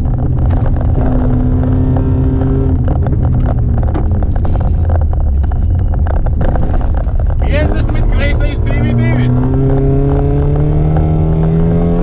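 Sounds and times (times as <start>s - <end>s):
car engine under load: 0.0s - 12.0s
road noise: 0.0s - 12.0s.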